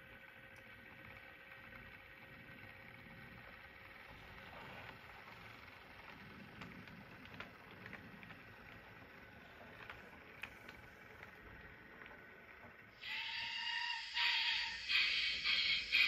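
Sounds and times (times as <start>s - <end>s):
model train running: 0.0s - 16.0s.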